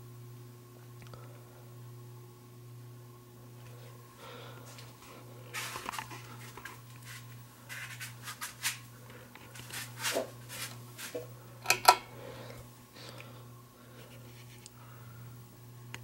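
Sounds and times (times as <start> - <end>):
ceiling fan motor humming: 0.0 - 16.0.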